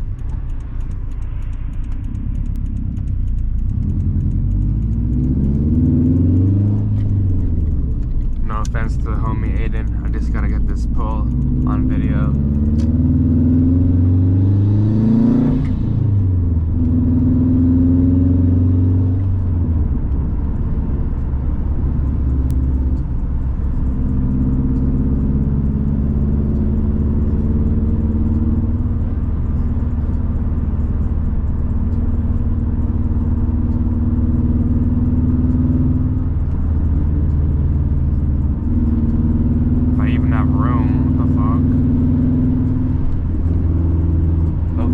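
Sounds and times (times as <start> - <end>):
car engine at full throttle: 0.0 - 44.9.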